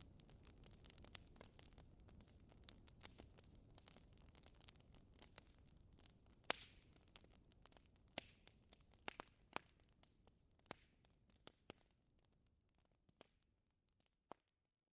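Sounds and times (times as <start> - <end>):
wood fire crackling and popping: 0.0 - 14.5.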